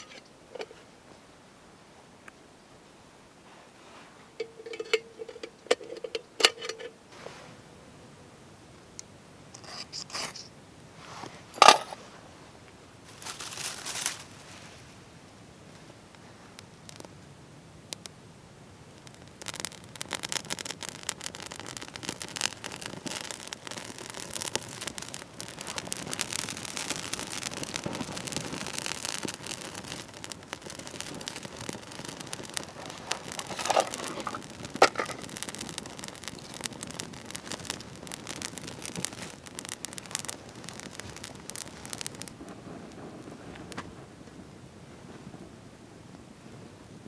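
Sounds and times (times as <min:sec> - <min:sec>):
kindling fire crackling: 0:00.0 - 0:07.4, 0:08.7 - 0:47.0.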